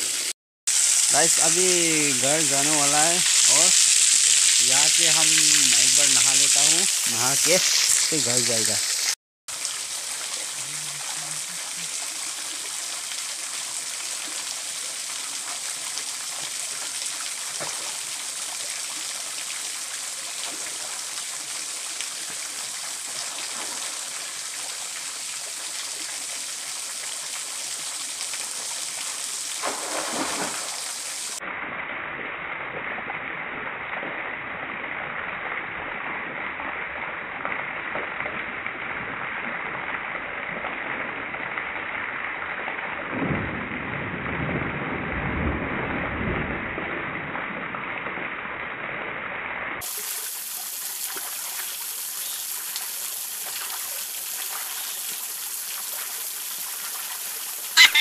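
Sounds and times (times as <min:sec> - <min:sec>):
small waterfall splashing: 0:00.0 - 0:43.2, 0:49.8 - 0:58.0.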